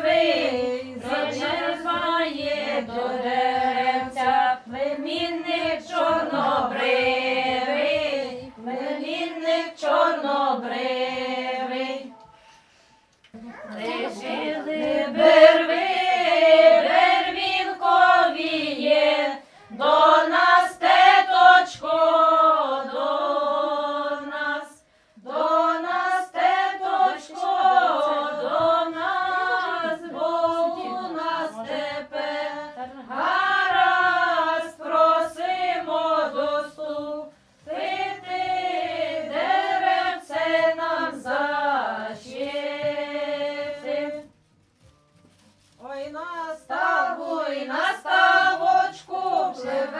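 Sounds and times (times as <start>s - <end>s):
women singing unaccompanied: 0.0s - 12.2s, 13.5s - 44.3s, 45.8s - 49.9s.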